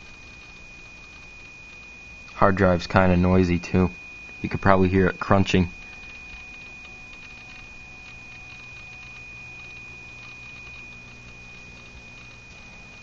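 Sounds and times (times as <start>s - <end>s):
hard drive whine and hum: 0.0s - 13.0s.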